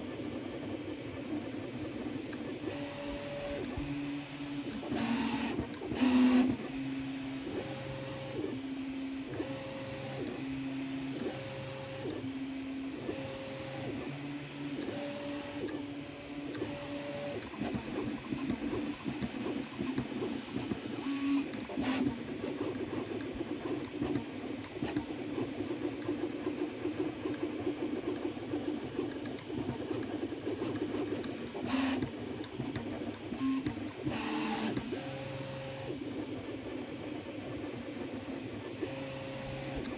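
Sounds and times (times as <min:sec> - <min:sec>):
printer stepper motors whining: 0:00.0 - 0:39.9.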